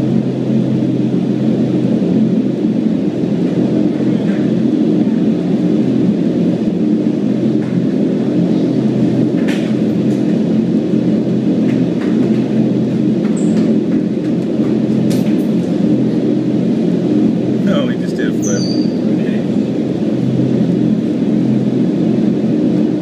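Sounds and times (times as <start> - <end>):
loud rush of air: 0.0 - 23.0
low fan hum: 0.0 - 23.0.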